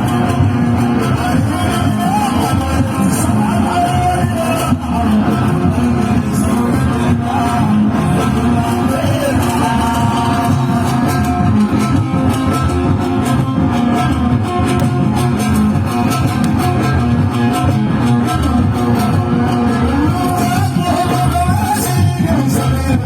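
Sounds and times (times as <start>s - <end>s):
live band party music: 0.0s - 23.0s.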